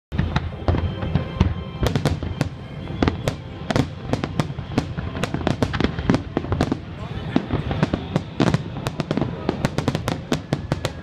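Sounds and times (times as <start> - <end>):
fireworks bursting with sharp bangs: 0.1 - 11.0
music: 0.1 - 11.0.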